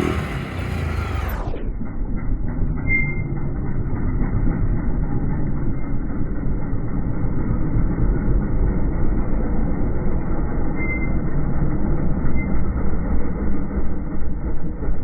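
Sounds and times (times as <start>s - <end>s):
slowed engine low rumble: 0.0s - 15.0s.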